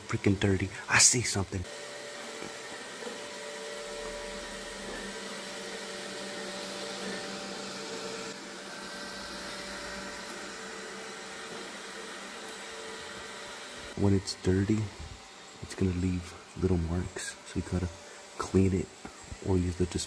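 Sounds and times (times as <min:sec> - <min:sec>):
robot vacuum whirring: 0:00.3 - 0:20.0.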